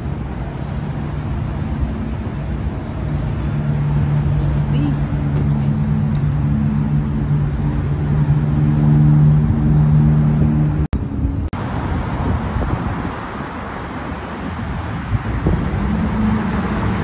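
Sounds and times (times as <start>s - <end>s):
low engine hum: 0.0s - 17.0s
rushing road noise: 0.0s - 17.0s.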